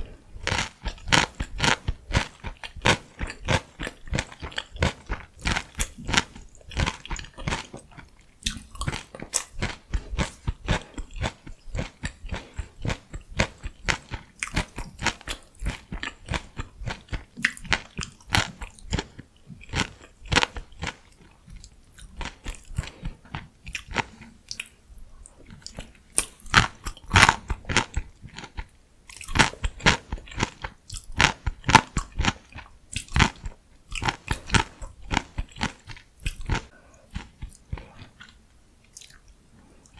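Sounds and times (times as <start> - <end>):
crunchy chewing and bites: 0.0 - 24.8, 25.5 - 39.4.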